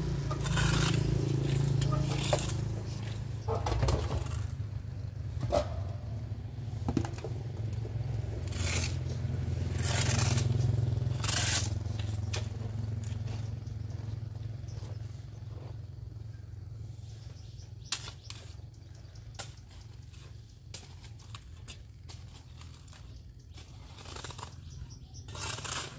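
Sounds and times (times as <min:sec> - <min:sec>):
metal hoe scraping soil: 0:00.0 - 0:15.7, 0:16.9 - 0:25.9.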